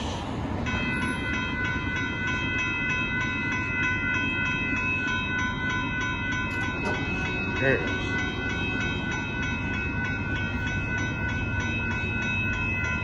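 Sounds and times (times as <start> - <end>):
crossing signal bell ringing: 0.6 - 13.0.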